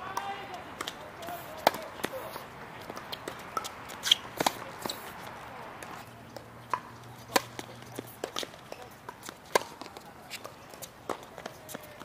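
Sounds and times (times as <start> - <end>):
tennis balls struck and bouncing: 0.0 - 12.0.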